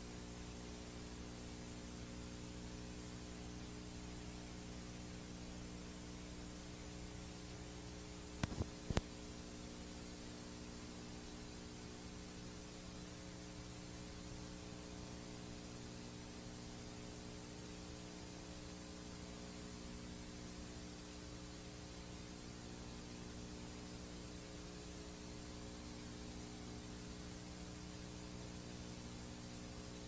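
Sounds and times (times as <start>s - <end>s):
low mains hum: 0.0s - 30.0s
tape hiss: 0.0s - 30.0s.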